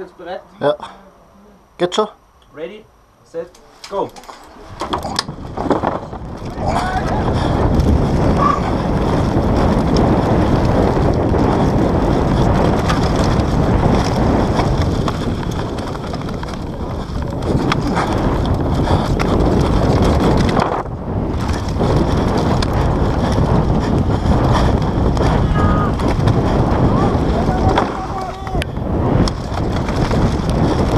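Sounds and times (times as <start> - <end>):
bike tyres rumbling: 3.7 - 30.9
bike rattling and clicking: 3.8 - 30.9
wind on camera microphone: 4.5 - 30.9.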